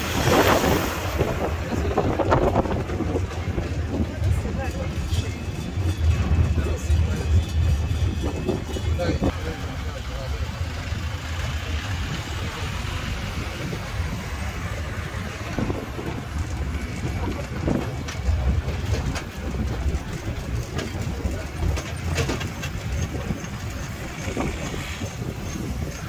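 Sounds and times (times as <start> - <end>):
carriages knocking and rattling: 0.0 - 26.0
engine and tyres rumbling: 0.0 - 26.0.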